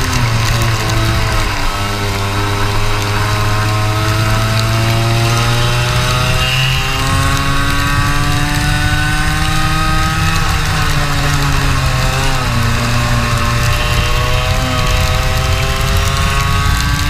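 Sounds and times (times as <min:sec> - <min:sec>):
go-kart engine revving: 0:00.0 - 0:17.0.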